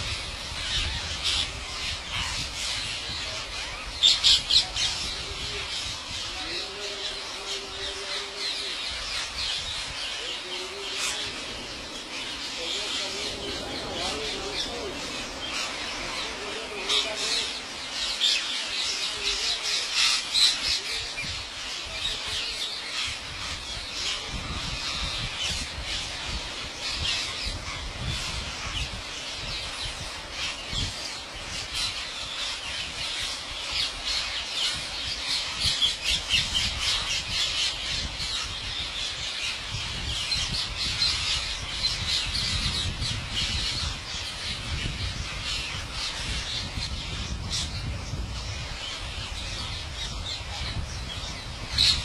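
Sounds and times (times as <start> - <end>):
flock of parakeets squawking: 0.0 - 52.0.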